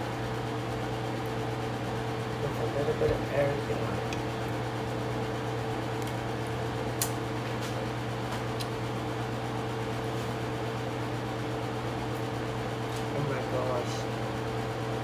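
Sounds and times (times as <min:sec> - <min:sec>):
appliance humming: 0:00.0 - 0:15.0.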